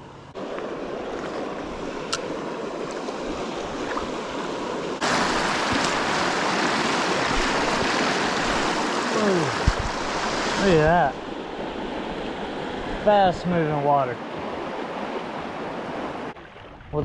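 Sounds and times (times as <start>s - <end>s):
creek water rushing: 0.3s - 17.0s.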